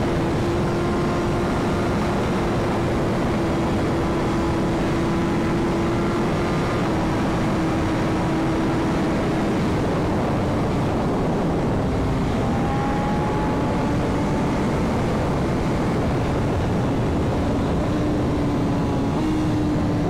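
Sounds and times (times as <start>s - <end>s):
motorcycle engine cruising: 0.0s - 20.0s
wind rushing over microphone: 0.0s - 20.0s.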